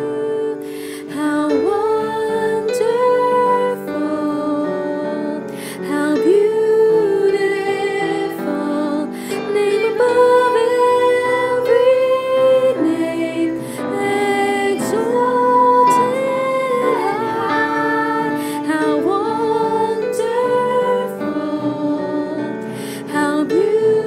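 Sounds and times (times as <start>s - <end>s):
person singing worship song: 0.0s - 24.0s
soft instrumental accompaniment: 0.0s - 24.0s.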